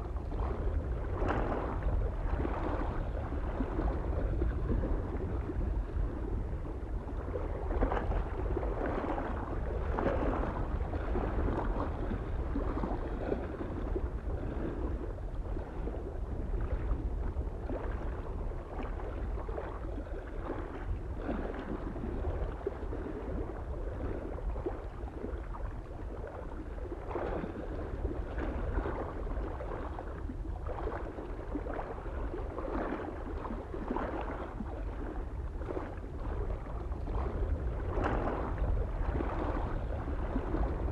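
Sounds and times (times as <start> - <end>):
low wind rumble: 0.0 - 40.9
small waves lapping on shore: 0.0 - 40.9.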